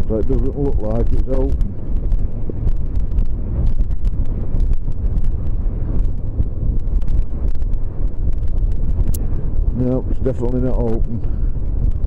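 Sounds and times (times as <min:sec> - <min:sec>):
motorcycle and road noise: 0:00.0 - 0:12.0
wind buffeting microphone: 0:00.0 - 0:12.0.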